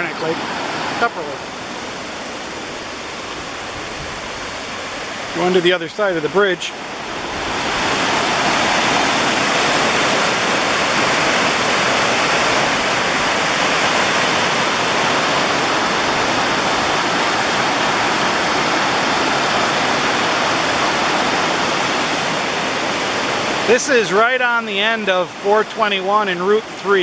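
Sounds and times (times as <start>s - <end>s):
waterfall rushing over rocks: 0.0s - 27.0s.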